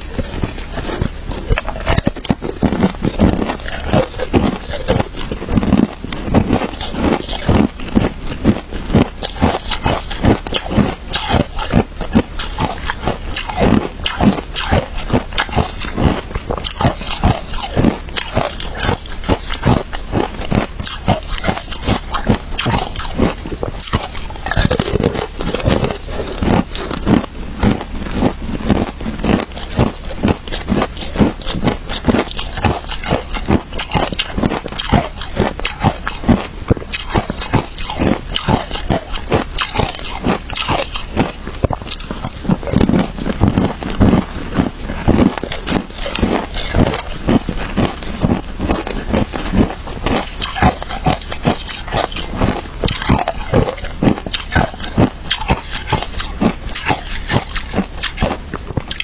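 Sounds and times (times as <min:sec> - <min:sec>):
chewing crunchy shaved ice: 0:00.0 - 0:59.0.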